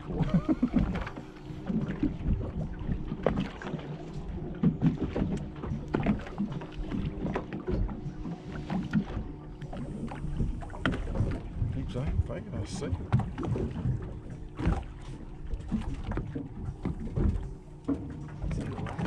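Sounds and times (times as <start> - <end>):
boat engine idling: 0.0 - 19.0
water wash: 0.0 - 19.0.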